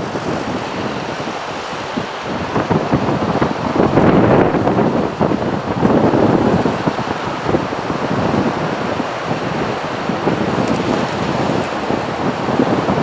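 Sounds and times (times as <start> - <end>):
surf breaking on a beach: 0.0 - 13.0
wind buffeting the microphone: 0.0 - 13.0.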